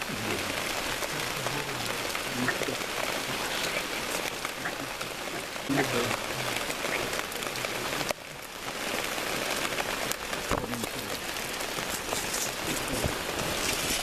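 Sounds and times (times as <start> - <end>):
rain falling steadily: 0.0 - 14.0
raindrops ticking close by: 0.0 - 14.0.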